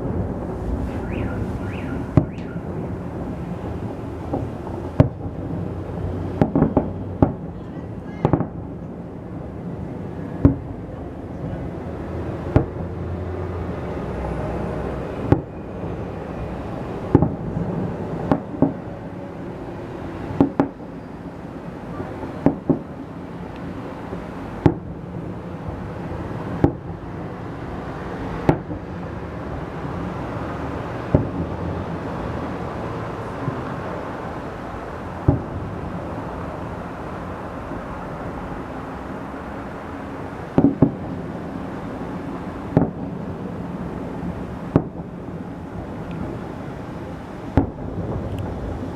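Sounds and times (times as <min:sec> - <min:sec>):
background rumble: 0:00.0 - 0:48.9.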